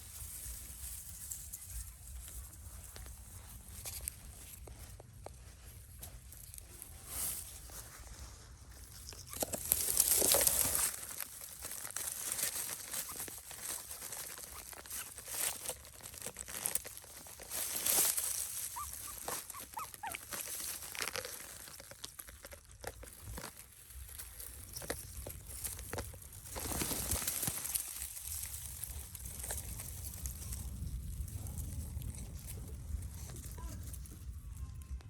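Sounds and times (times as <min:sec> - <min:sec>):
dogs rustling and crunching food: 0:00.0 - 0:34.9.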